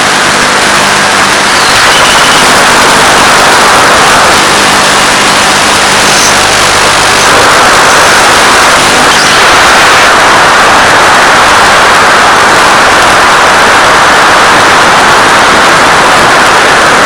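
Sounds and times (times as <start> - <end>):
loud rushing hiss: 0.0 - 17.0.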